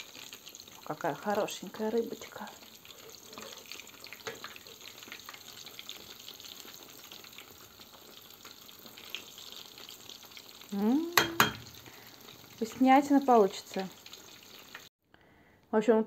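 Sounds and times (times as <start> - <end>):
fish frying in hot oil: 0.0 - 14.9.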